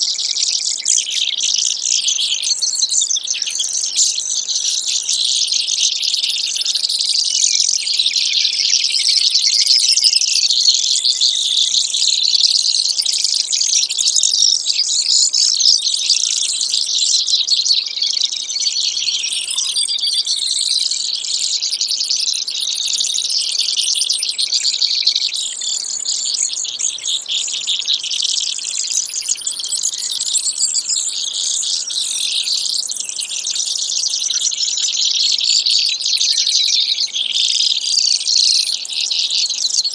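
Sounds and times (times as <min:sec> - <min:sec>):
sparrows singing trills: 0:00.0 - 0:39.9.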